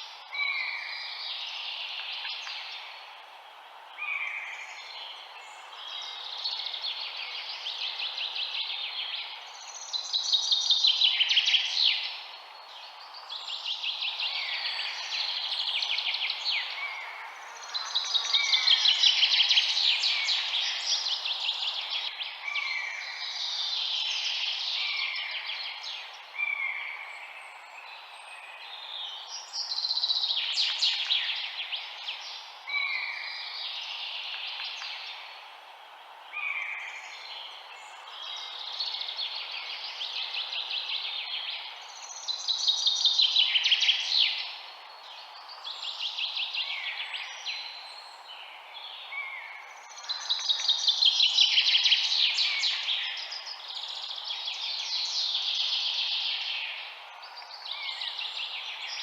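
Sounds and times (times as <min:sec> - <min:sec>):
birds singing: 0:00.0 - 0:59.0
steady low hiss: 0:00.0 - 0:59.0.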